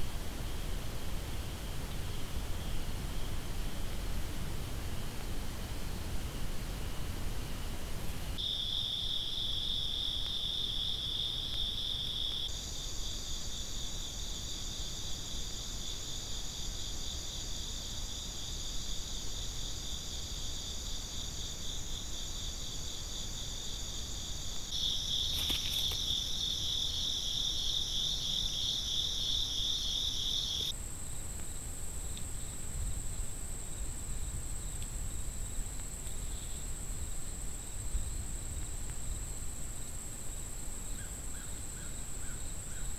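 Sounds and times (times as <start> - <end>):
insects chirping: 8.4 - 42.9.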